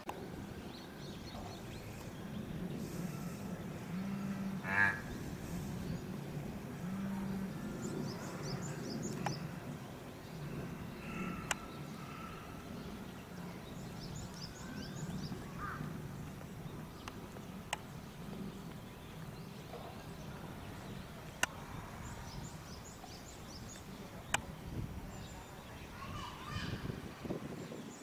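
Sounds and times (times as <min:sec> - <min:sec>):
steady low murmur: 0:00.0 - 0:28.0
small birds chirping: 0:00.1 - 0:28.0.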